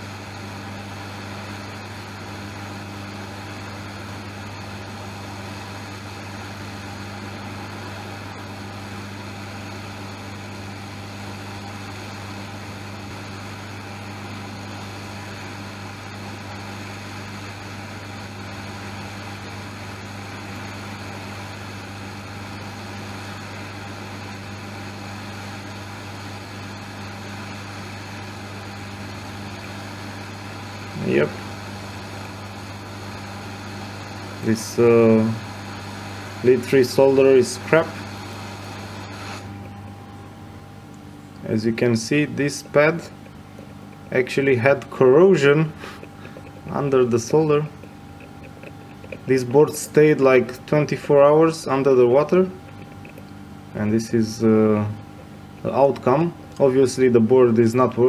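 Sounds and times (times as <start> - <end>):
hot air blower hissing: 0.0 - 39.9, 41.4 - 58.0
steady low hum: 0.0 - 58.0.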